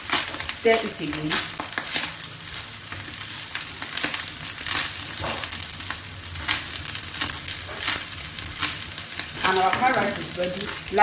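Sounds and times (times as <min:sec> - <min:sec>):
frying sizzle: 0:00.0 - 0:11.0
wooden spatula scraping a wok: 0:00.0 - 0:11.0.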